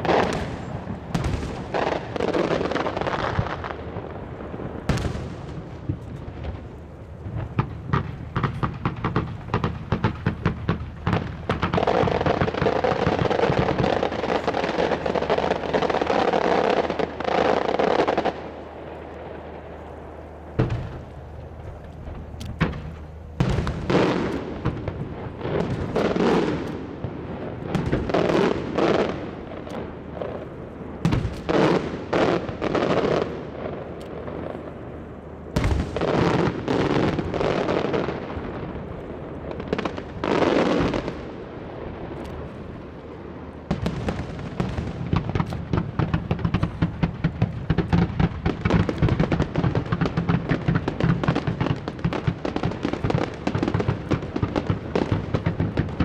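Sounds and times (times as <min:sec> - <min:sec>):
continuous rushing noise: 0:00.0 - 0:56.0
fireworks bangs: 0:00.0 - 0:56.0.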